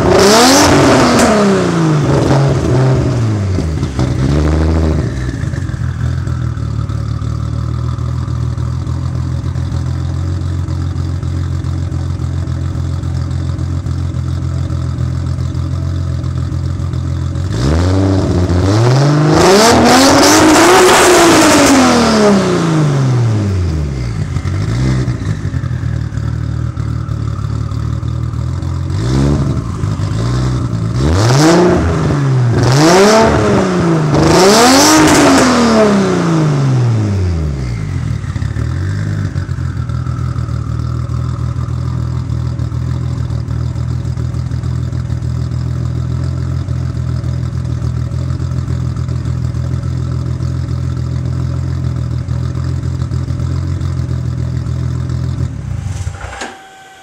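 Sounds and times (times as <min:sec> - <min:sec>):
car engine revving and idling: 0:00.0 - 0:56.2.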